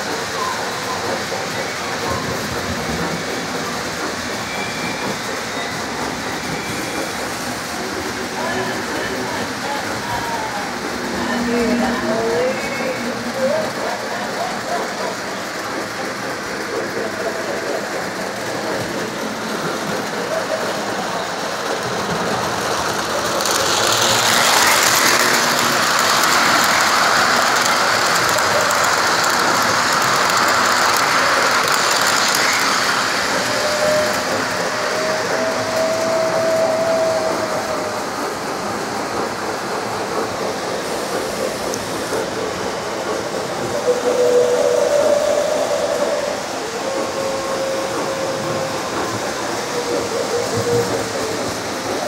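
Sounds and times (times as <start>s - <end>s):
model train running on track: 0.0s - 52.0s.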